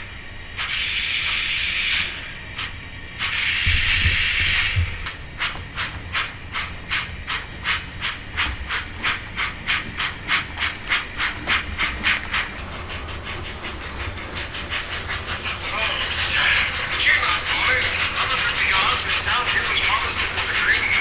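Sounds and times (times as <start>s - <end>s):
steam hiss: 0.0s - 21.0s
steam engine exhaust chuffs: 0.5s - 21.0s.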